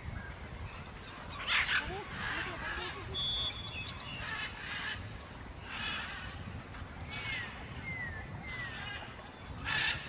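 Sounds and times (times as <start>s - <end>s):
wind rumble on microphone: 0.0s - 10.0s
distant voices calling: 0.7s - 10.0s.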